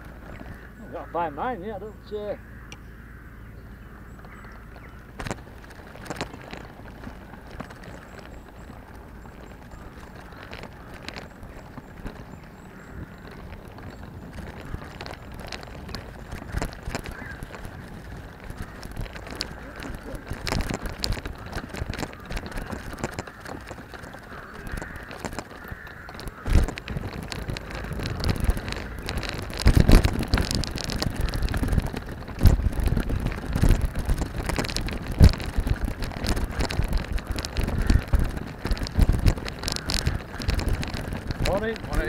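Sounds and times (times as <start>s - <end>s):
carrier wheels rumbling and rattling: 0.0s - 42.0s
wind on microphone: 4.3s - 42.0s.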